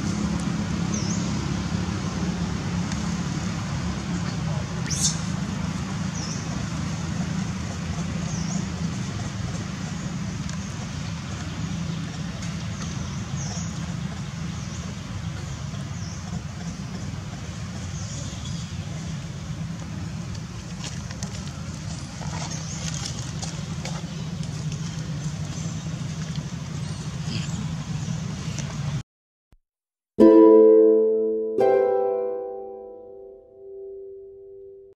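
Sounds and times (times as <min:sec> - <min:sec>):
distant motor vehicles hum: 0:00.0 - 0:29.0.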